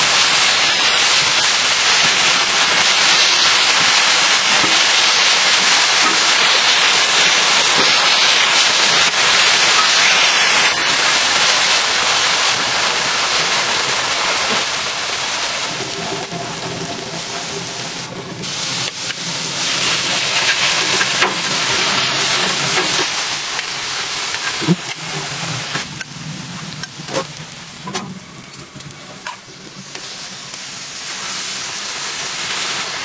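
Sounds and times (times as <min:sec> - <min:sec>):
patties sizzling on griddle: 0:00.0 - 0:33.0.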